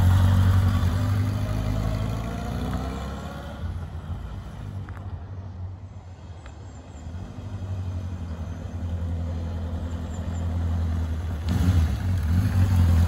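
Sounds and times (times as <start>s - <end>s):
motorcycle engine at low speed: 0.0s - 5.3s, 6.2s - 13.0s.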